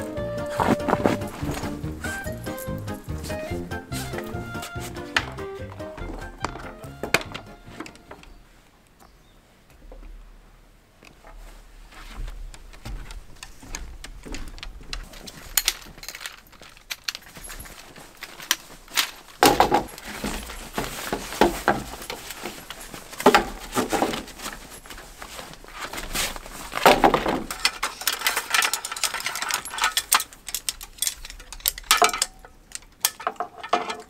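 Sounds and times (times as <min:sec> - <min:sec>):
camping gear clinking and rattling: 0:00.0 - 0:08.4, 0:11.0 - 0:34.0.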